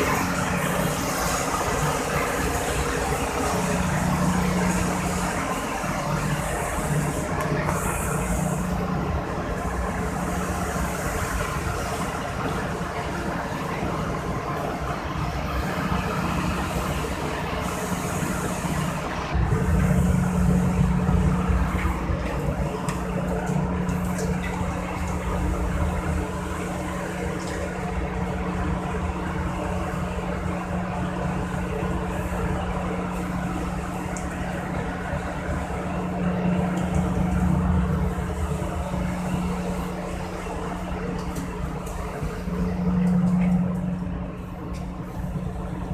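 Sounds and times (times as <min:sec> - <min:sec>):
ship engine humming: 0:00.0 - 0:45.9.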